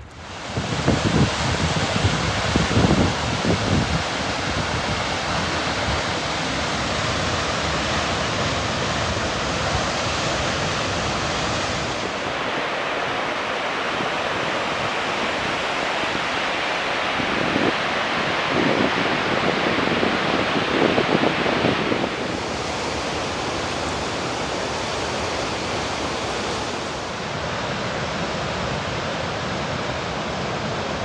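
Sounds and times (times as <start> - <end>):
wind buffeting microphone: 0.0 - 12.5, 17.3 - 31.0
large waterfall rushing: 0.0 - 31.0.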